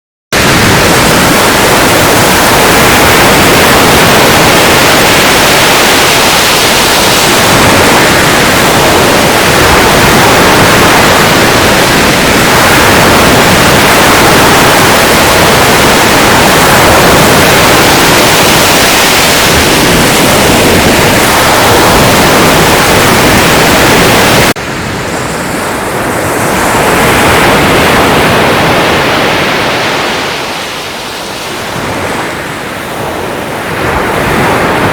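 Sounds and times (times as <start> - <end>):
breaking waves: 0.4 - 34.9.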